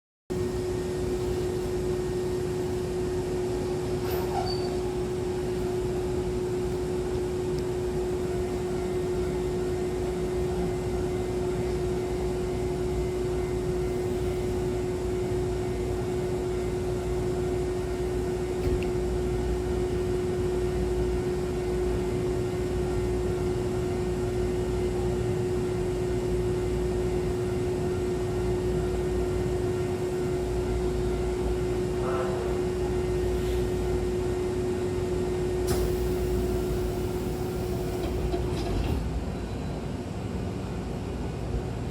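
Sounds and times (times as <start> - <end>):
standing train humming: 0.3 - 41.9.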